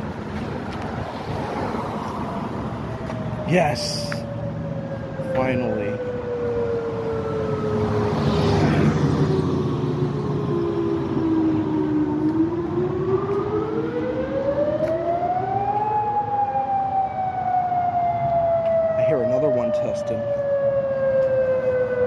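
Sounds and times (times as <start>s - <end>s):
vehicle rumble: 0.0s - 19.4s
warning siren wailing: 0.0s - 22.0s.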